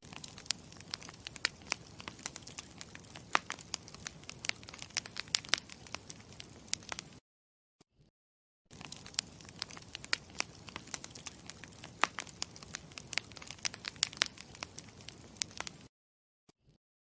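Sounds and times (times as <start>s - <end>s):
campfire crackling: 0.0s - 7.2s, 8.7s - 15.9s.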